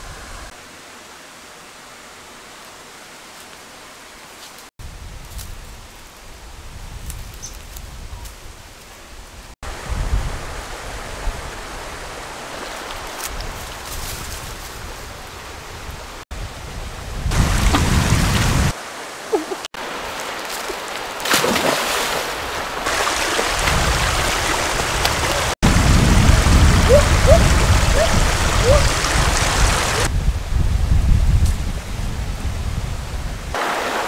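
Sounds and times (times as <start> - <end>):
rushing outdoor noise: 0.0 - 34.0.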